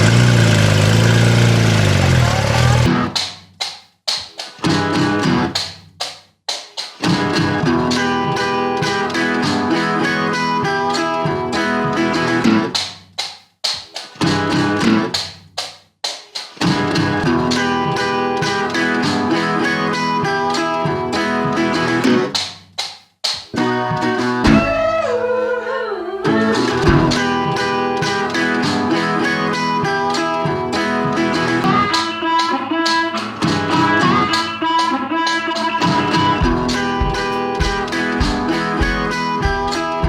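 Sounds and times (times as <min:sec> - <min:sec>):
guitar background music: 0:02.6 - 0:03.4, 0:04.1 - 0:15.4, 0:16.1 - 0:22.6, 0:23.4 - 0:25.4, 0:26.3 - 0:40.0.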